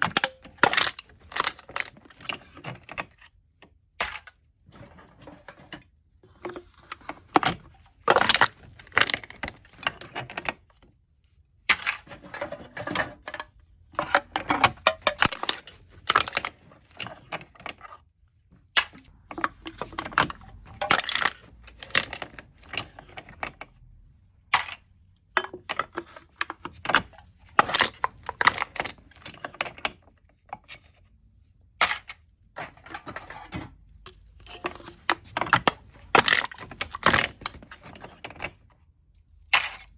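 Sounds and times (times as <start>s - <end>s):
aluminium cans being crushed: 0.0s - 3.2s, 4.0s - 4.4s, 5.8s - 10.7s, 11.6s - 17.8s, 18.7s - 30.7s, 31.8s - 38.7s, 39.4s - 39.9s.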